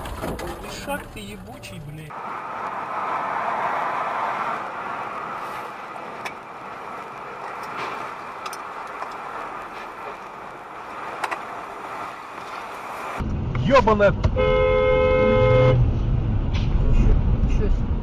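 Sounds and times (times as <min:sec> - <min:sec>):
car road and tyre noise: 0:00.0 - 0:18.0.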